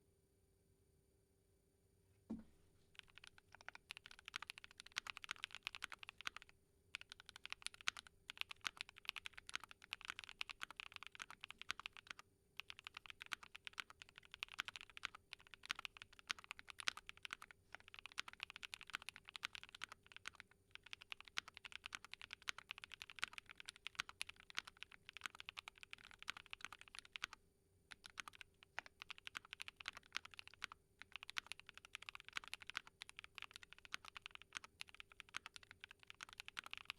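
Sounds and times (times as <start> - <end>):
mechanical keyboard typing: 3.0 - 36.9.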